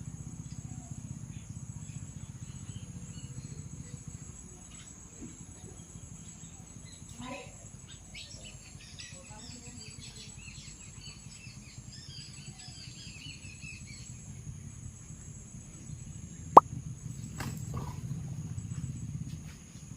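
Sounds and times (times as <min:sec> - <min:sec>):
small birds chirping: 0:00.3 - 0:16.6.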